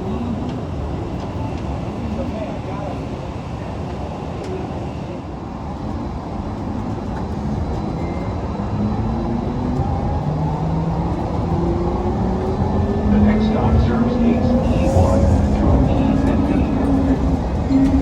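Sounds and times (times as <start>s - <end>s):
train rumble with motor whine: 0.0s - 18.0s.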